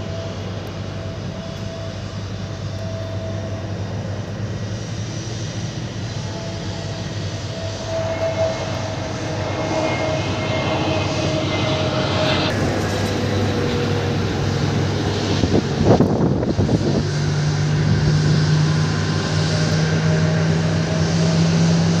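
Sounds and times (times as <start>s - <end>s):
jet engine whine: 0.0s - 22.0s
low jet drone: 0.0s - 22.0s
rush of noise: 2.5s - 22.0s.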